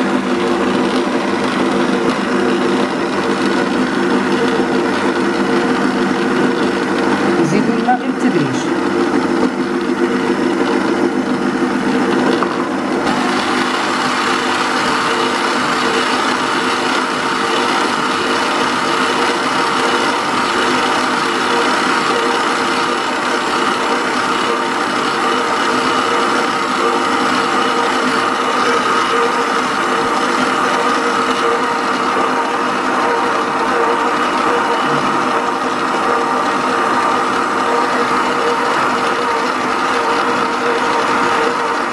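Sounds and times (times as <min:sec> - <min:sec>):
dough mixer motor humming: 0:00.0 - 0:41.9.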